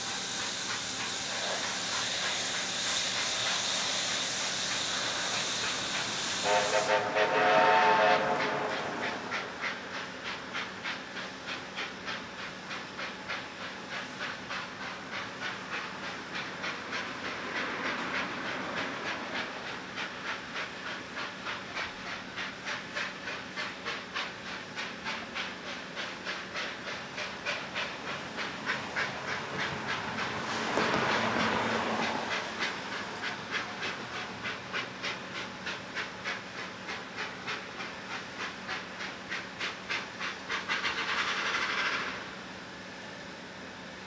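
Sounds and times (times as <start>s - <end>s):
hiss of steam: 0.0s - 42.9s
steam locomotive chuffing: 0.0s - 44.0s.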